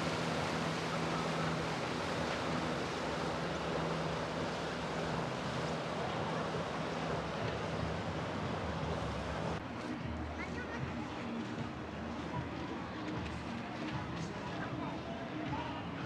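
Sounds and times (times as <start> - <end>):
boat wake washing: 0.0 - 16.0.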